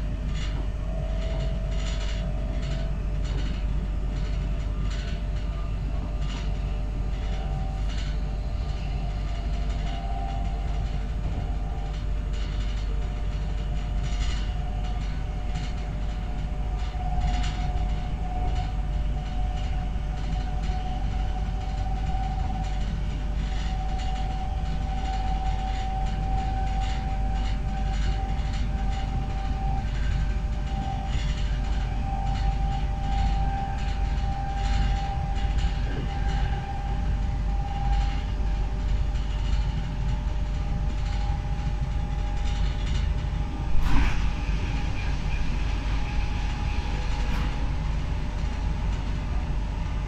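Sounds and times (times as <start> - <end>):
electric train rumble and whine: 0.0 - 50.0
wheels clicking on rails: 0.0 - 50.0.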